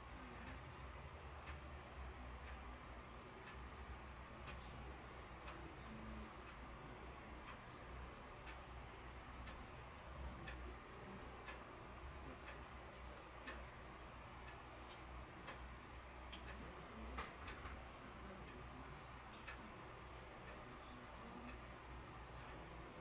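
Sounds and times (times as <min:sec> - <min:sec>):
faint clock ticking: 0:00.0 - 0:23.0
low steady hum: 0:00.0 - 0:23.0.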